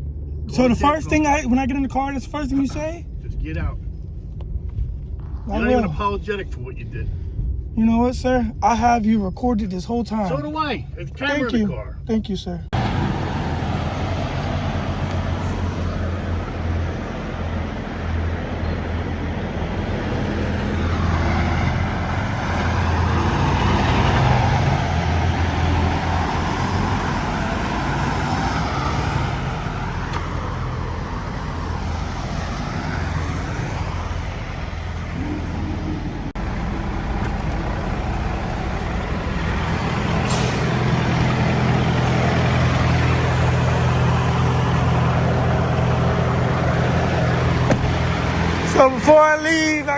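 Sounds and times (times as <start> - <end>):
road noise rush: 0.0 - 49.9
vehicle engine hum: 0.0 - 49.9.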